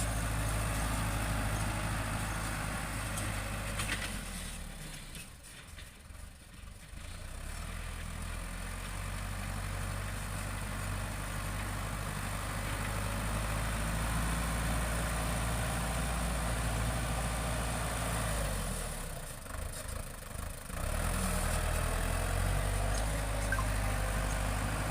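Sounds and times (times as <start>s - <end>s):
farm machine engine droning: 0.0s - 24.9s.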